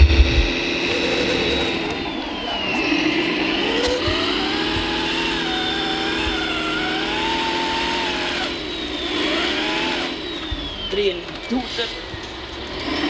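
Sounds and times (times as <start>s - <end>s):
toy truck motor whine: 0.0s - 13.0s.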